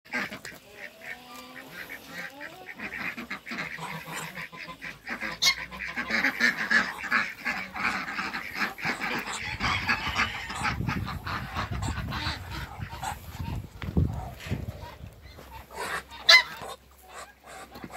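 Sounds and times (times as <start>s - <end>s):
duck and fowl calls: 0.1s - 17.9s
geese honking: 0.1s - 17.9s.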